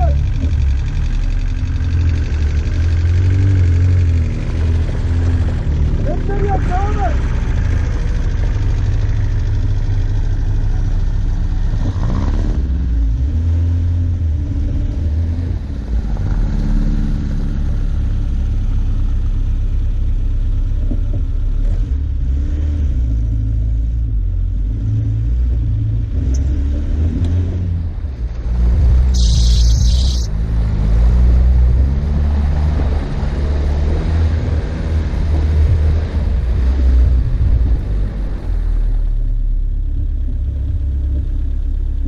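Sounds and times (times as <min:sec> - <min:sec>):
heavy low rumble: 0:00.0 - 0:22.2, 0:23.0 - 0:42.0
engine working under load: 0:00.0 - 0:42.0.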